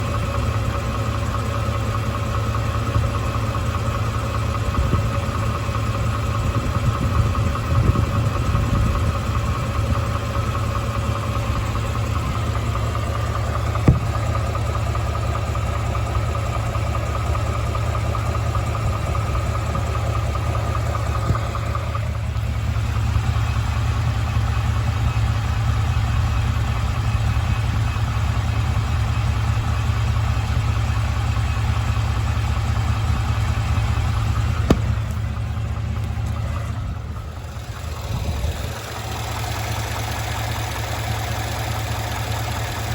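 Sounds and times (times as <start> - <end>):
car engine idling: 0.0 - 42.9
engine knock: 0.0 - 42.9.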